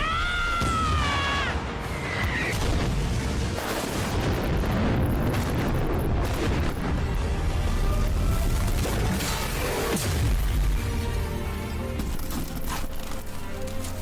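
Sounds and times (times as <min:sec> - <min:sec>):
rumbling explosions and booms: 0:00.0 - 0:11.4
background music: 0:00.0 - 0:14.0.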